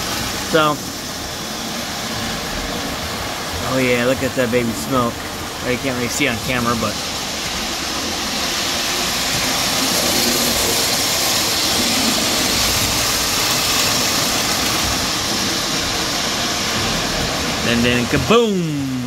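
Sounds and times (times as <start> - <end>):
model train whirring rumble: 0.0 - 19.0.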